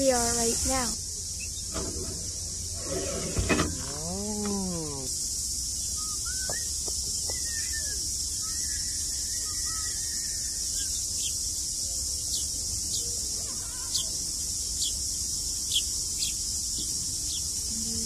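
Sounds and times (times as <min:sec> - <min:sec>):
high insect chorus: 0:00.0 - 0:18.0.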